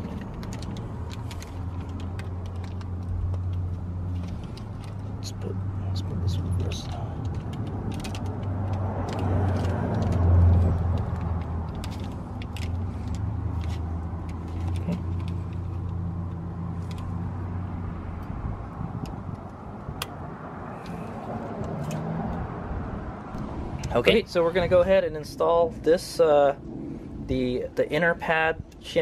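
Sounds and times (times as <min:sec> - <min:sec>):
low vehicle drone: 0:00.0 - 0:29.0.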